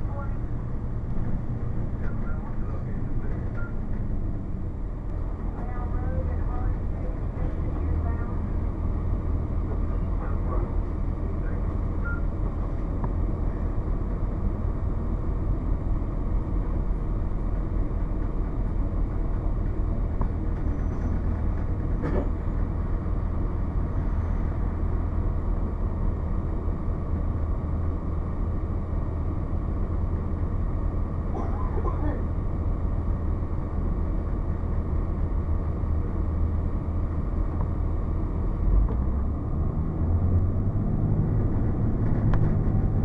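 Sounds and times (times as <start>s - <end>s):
diesel bus engine rumble: 0.0s - 43.0s.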